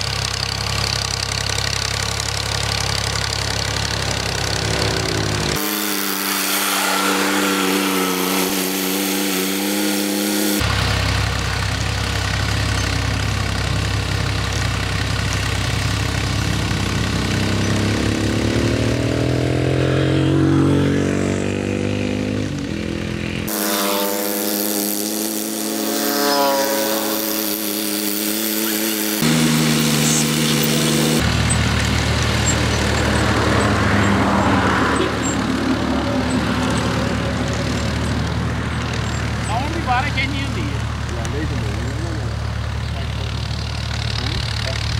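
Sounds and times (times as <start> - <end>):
tractor diesel engine running: 0.0 - 21.5, 22.4 - 44.9.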